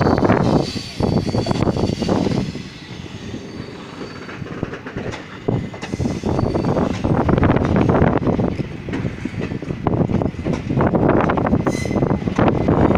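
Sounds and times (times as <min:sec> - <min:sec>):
train wheels clattering over rails: 0:00.0 - 0:12.9.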